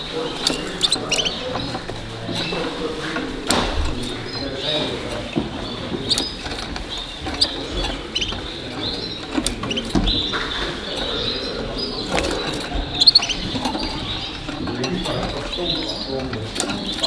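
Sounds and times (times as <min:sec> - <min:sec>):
canaries chirping and trilling: 0:00.0 - 0:17.0
hall murmur: 0:00.0 - 0:17.0.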